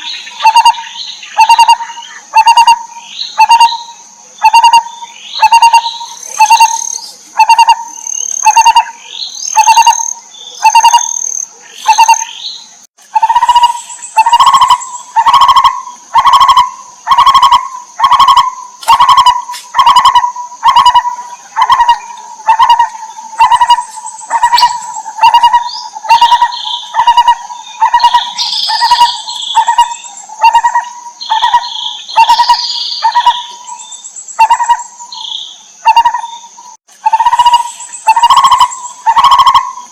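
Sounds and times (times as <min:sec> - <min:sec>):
barbet calling: 0:00.0 - 0:39.9
higher chirps: 0:00.0 - 0:39.9.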